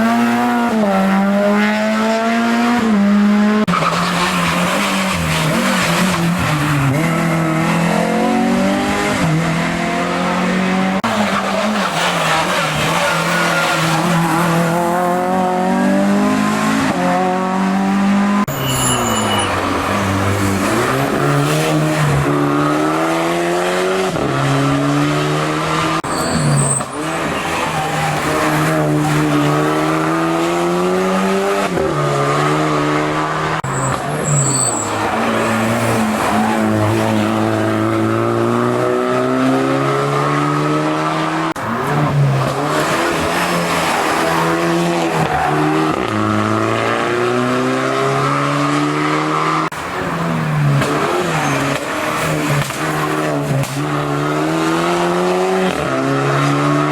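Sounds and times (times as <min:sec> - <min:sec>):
racing car engine revving: 0:00.0 - 0:18.5, 0:19.6 - 0:56.9.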